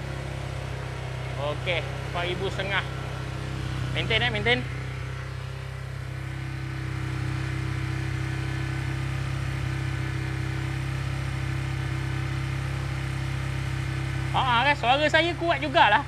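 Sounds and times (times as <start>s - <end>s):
motorcycle engine at steady revs: 0.0s - 16.0s.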